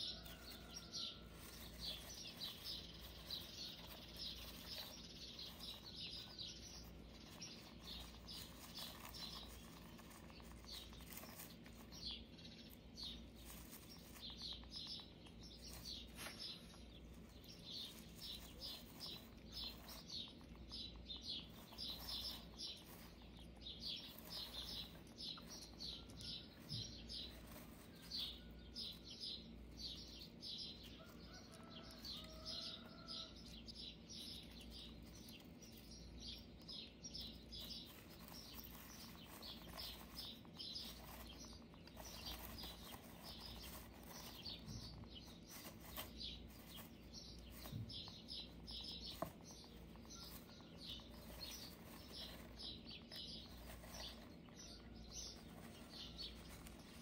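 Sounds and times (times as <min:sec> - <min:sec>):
high-pitched bird chirping: 0:00.0 - 0:57.0.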